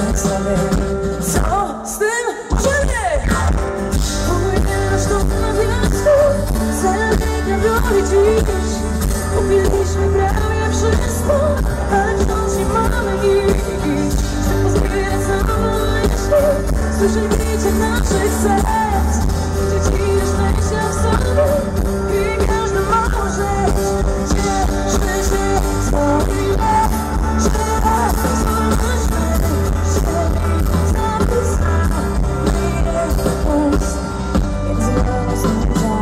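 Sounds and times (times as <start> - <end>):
woman singing: 0.0 - 36.0.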